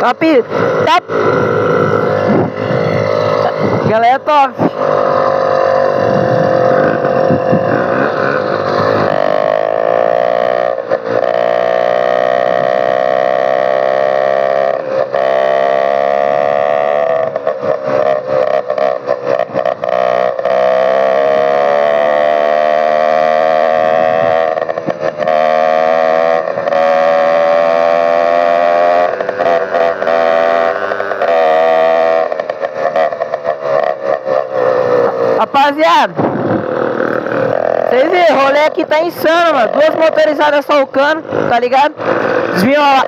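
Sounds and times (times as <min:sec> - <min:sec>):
small engine with open exhaust: 0:00.0 - 0:43.0.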